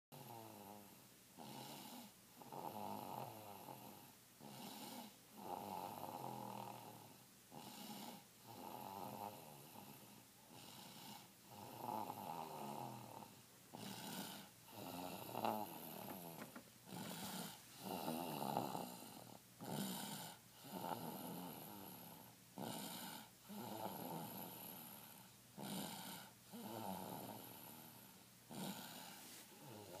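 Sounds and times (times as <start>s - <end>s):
rasping snore: 0.2s - 30.0s.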